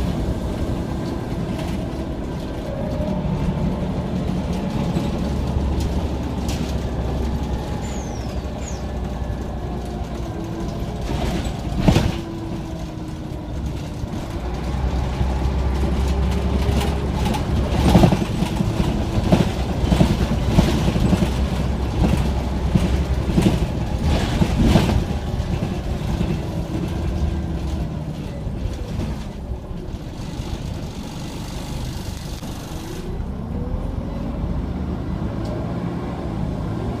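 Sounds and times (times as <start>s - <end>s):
bus engine rumble: 0.0s - 37.0s
rattles and knocks: 0.9s - 30.7s.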